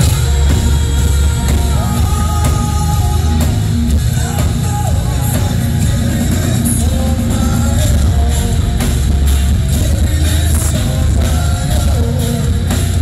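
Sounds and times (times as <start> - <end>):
bass guitar: 0.0 - 13.0
distorted electric guitar: 0.0 - 13.0
drums: 0.0 - 13.0
person singing: 0.0 - 13.0.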